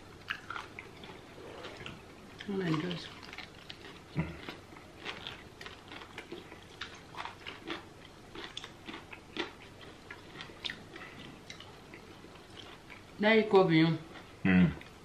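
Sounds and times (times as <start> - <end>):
people chewing with mouth clicks: 0.2 - 13.2.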